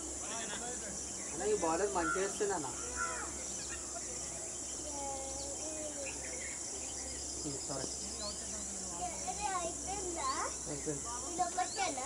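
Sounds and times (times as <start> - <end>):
faint distant voices: 0.0 - 12.0
high-pitched insect chorus: 0.0 - 12.0.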